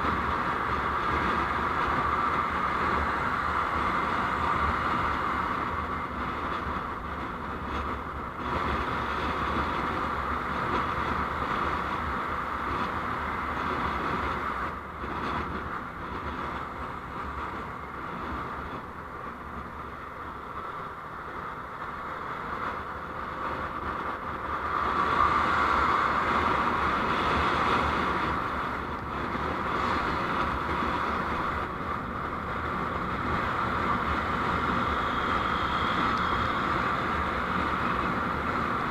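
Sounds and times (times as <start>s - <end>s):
vehicle road noise: 0.0s - 38.9s.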